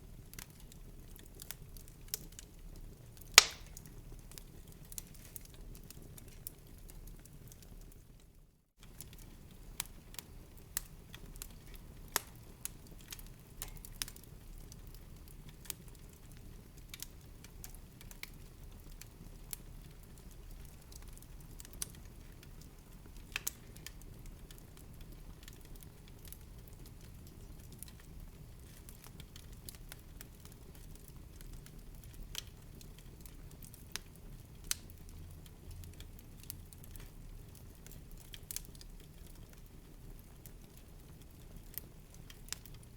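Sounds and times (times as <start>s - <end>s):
low rumble of flames: 0.0s - 42.9s
wood fire crackling and popping: 0.0s - 42.9s.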